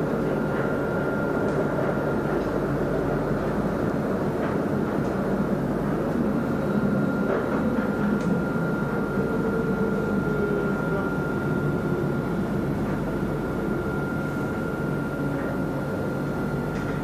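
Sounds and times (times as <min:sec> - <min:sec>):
constant high whine: 0:00.0 - 0:17.0
tram rumbling: 0:00.0 - 0:17.0.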